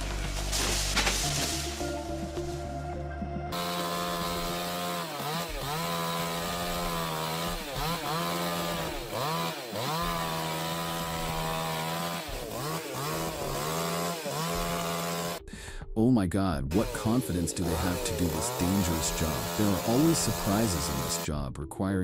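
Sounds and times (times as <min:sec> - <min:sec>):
chainsaw cutting wood: 0:00.0 - 0:02.0, 0:03.5 - 0:15.5, 0:16.7 - 0:21.3.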